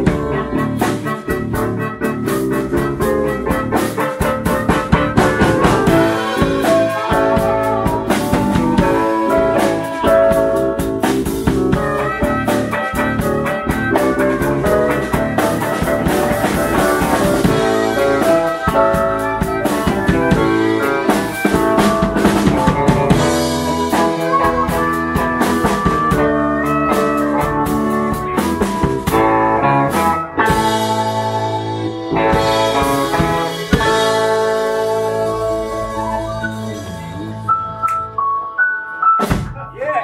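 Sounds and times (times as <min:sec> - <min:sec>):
harmonica wailing: 0:00.0 - 0:38.2
blues band playing: 0:00.0 - 0:40.0.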